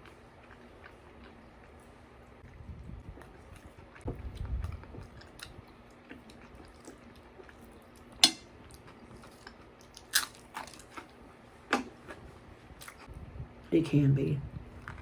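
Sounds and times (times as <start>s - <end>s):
food crunching: 0.0s - 13.1s
person chewing food: 0.0s - 13.1s.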